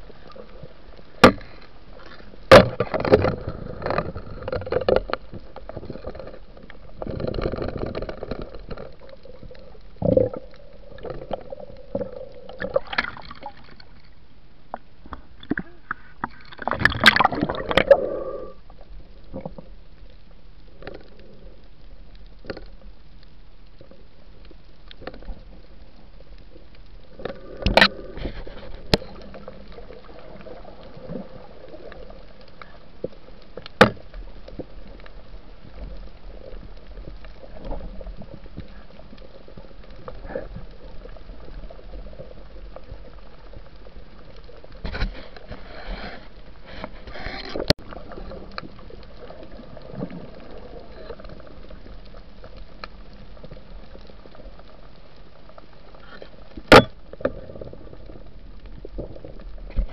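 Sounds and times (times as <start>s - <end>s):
muffled underwater wash: 0.0s - 59.9s.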